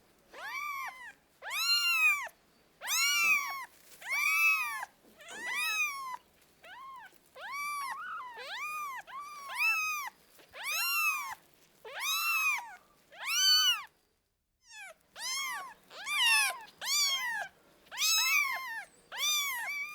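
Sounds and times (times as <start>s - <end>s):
kittens mewing: 0.3s - 13.9s, 14.8s - 19.9s.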